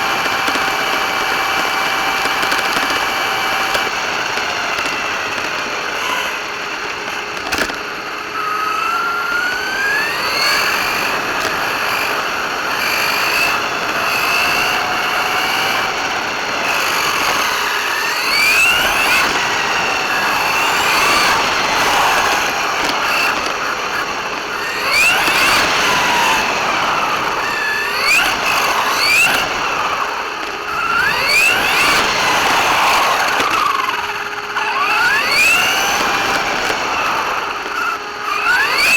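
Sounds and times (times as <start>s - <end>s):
rc car motor whining: 0.0s - 38.9s.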